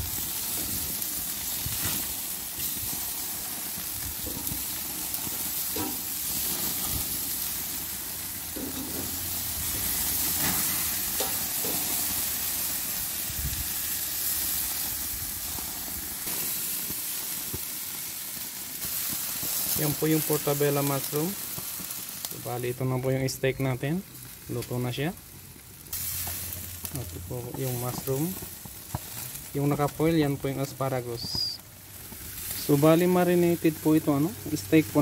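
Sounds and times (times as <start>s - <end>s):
steaks sizzling on a grill: 0.0s - 35.0s.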